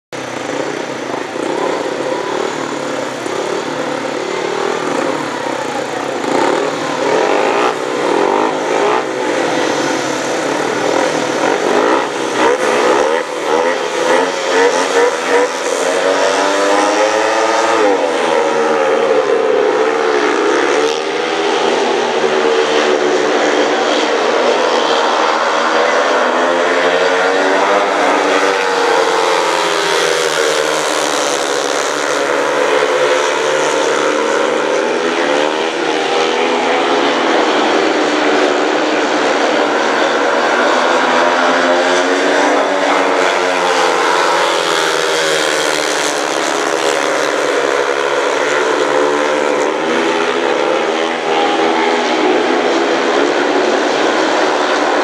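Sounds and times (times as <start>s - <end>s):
motorcycle engines revving: 0.2s - 55.0s.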